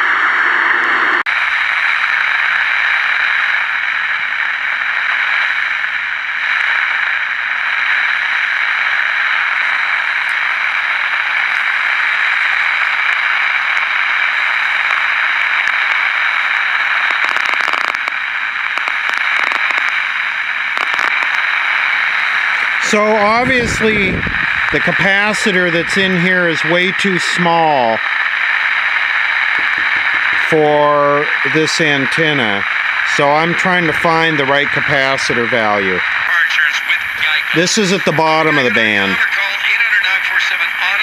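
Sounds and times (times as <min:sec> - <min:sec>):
radio crackles: 0:00.0 - 0:41.0
radio static hiss: 0:00.0 - 0:41.0.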